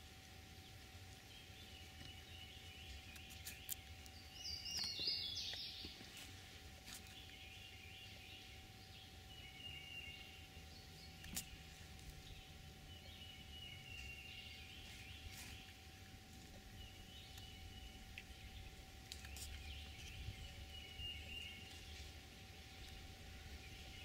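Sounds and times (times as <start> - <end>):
low background rumble: 0.0 - 24.0
birds calling: 1.3 - 24.0.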